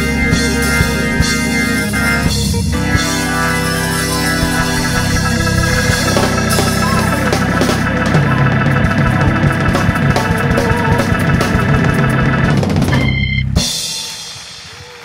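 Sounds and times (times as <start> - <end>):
low bass note: 0.0 - 13.6
drums: 0.0 - 15.0
organ runs: 0.0 - 15.0.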